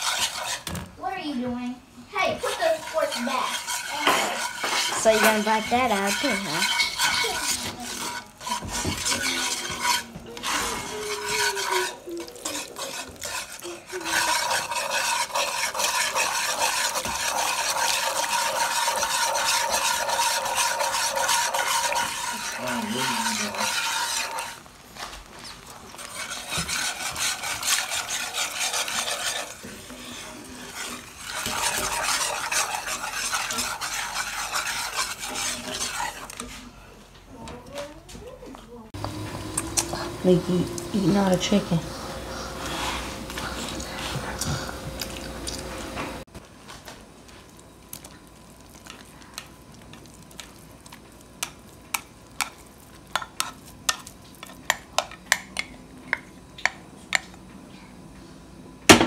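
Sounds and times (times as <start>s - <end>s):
whisk scraping a skillet: 0.0s - 0.8s, 2.2s - 36.8s, 39.9s - 45.2s, 48.7s - 55.7s.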